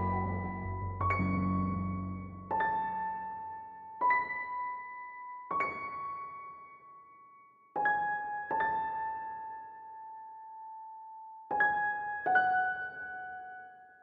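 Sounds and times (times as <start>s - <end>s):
slow piano-like keyboard notes: 0.0s - 14.0s.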